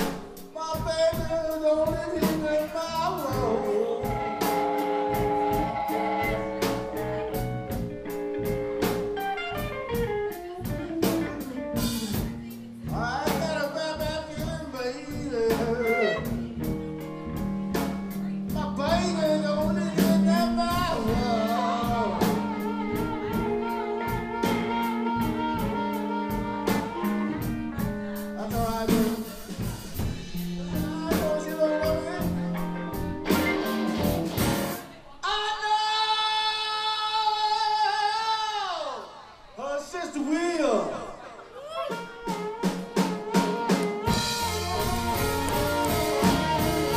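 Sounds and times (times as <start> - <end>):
person singing: 0.0 - 7.8, 12.8 - 16.6, 18.4 - 39.1, 41.5 - 46.9
live blues band playing: 0.0 - 35.0, 41.6 - 46.9.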